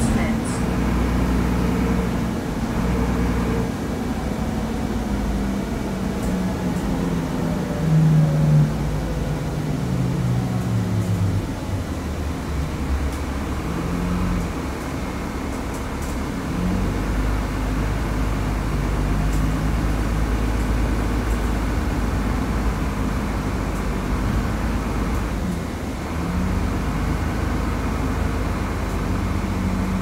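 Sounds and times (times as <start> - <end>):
bus engine and road drone: 0.0 - 30.0.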